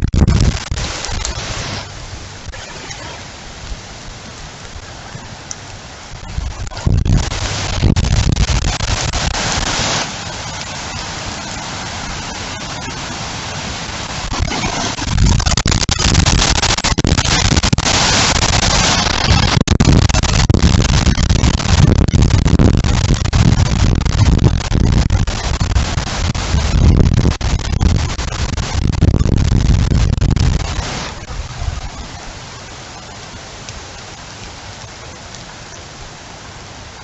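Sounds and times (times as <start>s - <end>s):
wind gusts buffeting microphone: 0.0s - 2.5s, 3.3s - 34.9s
heavy rain hiss: 0.0s - 37.0s.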